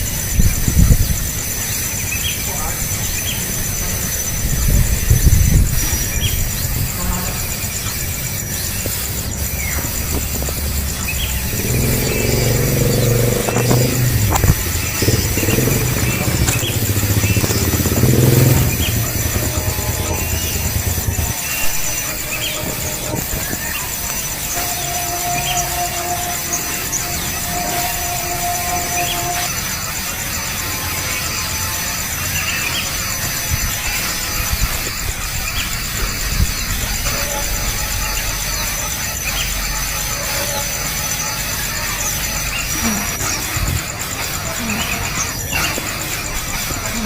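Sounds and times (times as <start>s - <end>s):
motorcycle engine hum: 0.0s - 47.0s
nestling birds chirping: 0.0s - 47.0s
pulsing high-pitched whine: 0.0s - 47.0s.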